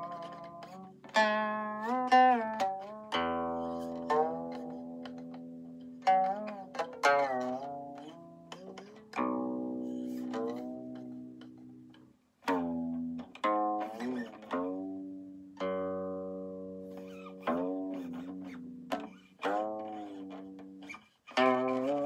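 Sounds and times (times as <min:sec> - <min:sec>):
guqin plucked notes: 0:00.0 - 0:22.0.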